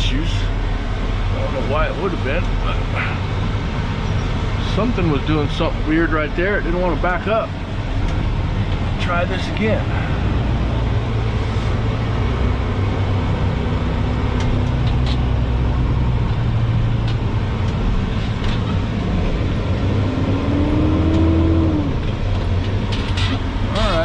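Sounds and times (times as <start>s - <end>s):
truck diesel engine straining: 0.0s - 24.0s.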